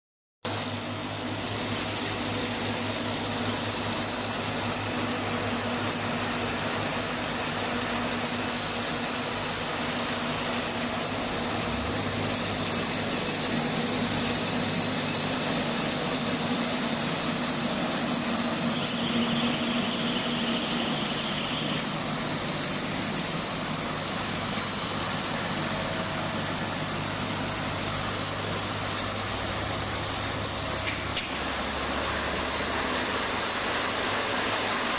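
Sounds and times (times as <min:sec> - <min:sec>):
baler machine running with whine: 0:00.5 - 0:34.9.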